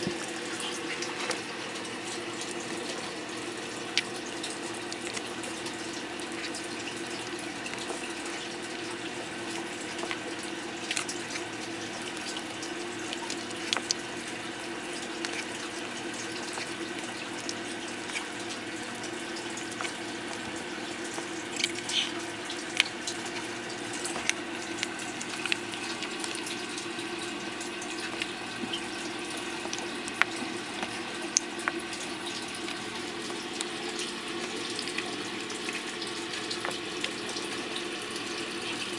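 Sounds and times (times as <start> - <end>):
turtles pecking at plastic dish: 0.0 - 37.8
low pump hum: 0.0 - 38.9
running water: 0.0 - 38.9.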